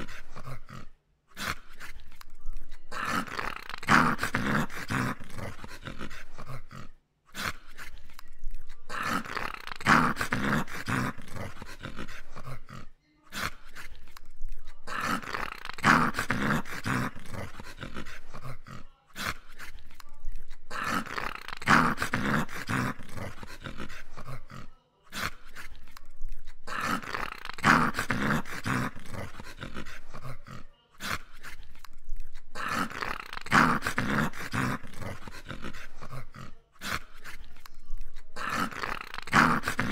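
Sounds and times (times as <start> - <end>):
dog growling: 0.0 - 39.9.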